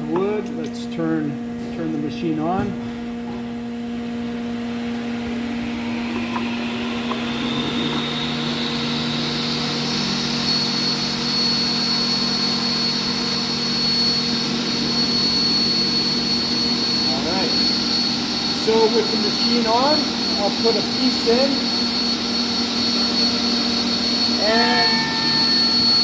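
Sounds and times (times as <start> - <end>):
high motor whine: 0.0 - 26.0
machine motors humming: 0.0 - 26.0.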